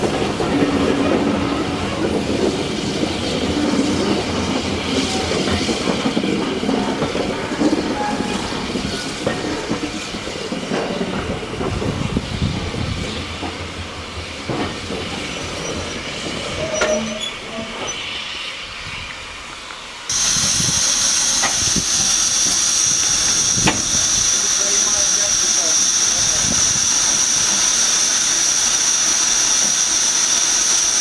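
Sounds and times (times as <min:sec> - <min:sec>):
train wheels clacking on rails: 0:00.0 - 0:18.0, 0:20.1 - 0:31.0
steam hissing: 0:00.8 - 0:31.0.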